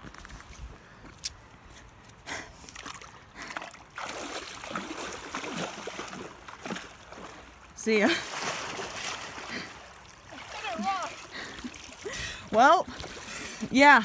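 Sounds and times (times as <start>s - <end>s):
legs splashing through water: 2.5s - 14.0s.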